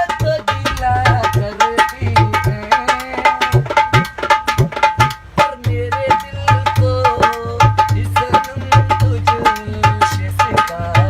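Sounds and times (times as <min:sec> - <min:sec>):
hand drum in a fast rhythm: 0:00.0 - 0:11.0.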